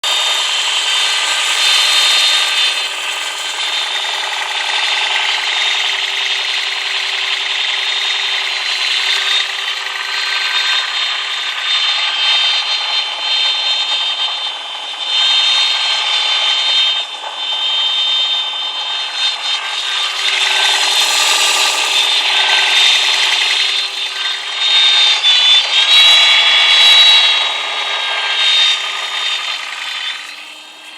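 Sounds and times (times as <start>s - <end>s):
high-pitched whine over hiss: 0.1s - 30.9s.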